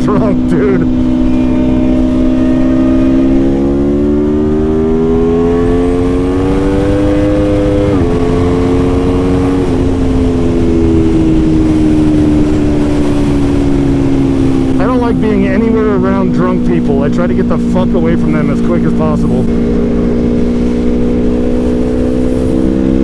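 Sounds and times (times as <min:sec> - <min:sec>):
motorcycle engine accelerating: 0:00.0 - 0:23.0
wind noise: 0:00.0 - 0:23.0.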